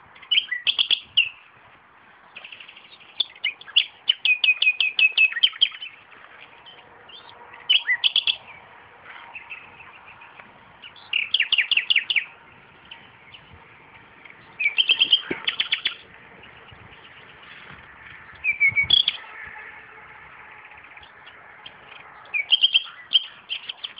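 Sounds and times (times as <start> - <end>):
nightingale singing: 0.1 - 1.5, 2.3 - 6.0, 6.6 - 19.5, 20.4 - 23.9.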